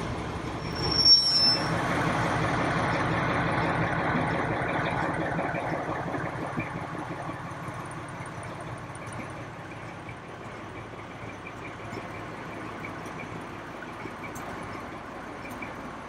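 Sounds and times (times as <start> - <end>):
locomotive diesel engine running: 0.0 - 16.0.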